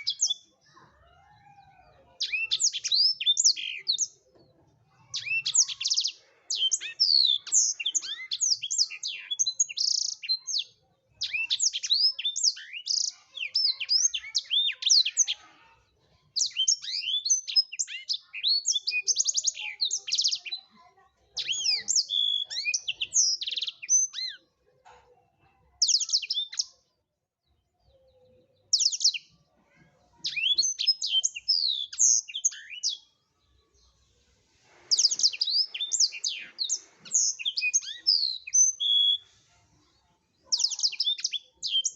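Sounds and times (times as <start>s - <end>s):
canary twittering song: 0.0s - 0.7s, 1.4s - 20.7s, 21.3s - 24.6s, 25.8s - 26.9s, 28.4s - 29.4s, 30.1s - 39.4s, 40.4s - 41.9s.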